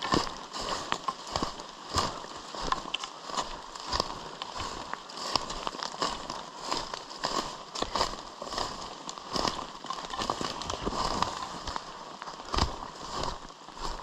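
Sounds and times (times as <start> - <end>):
footsteps on rocky ground: 0.0 - 14.0.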